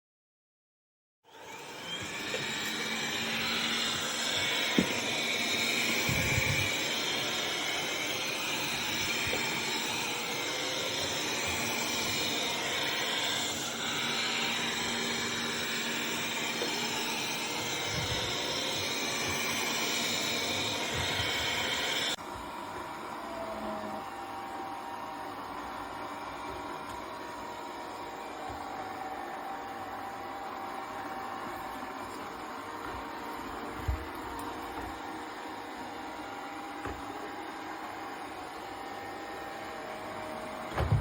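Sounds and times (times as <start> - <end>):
robot vacuum cleaner whirring: 1.3 - 41.0.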